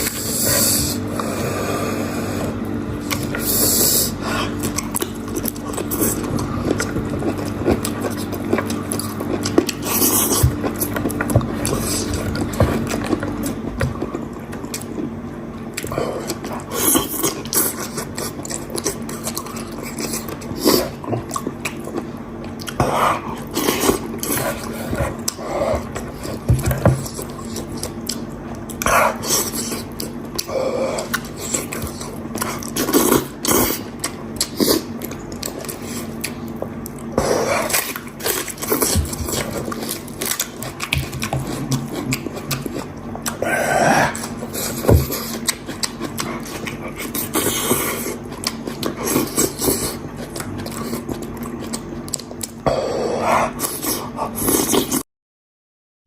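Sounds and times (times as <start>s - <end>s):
chewing: 0.0s - 55.0s.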